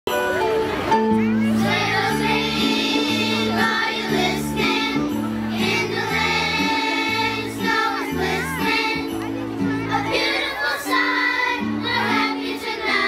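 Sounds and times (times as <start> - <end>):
instrumental accompaniment: 0.1 - 13.0
children's choir singing: 1.4 - 13.0.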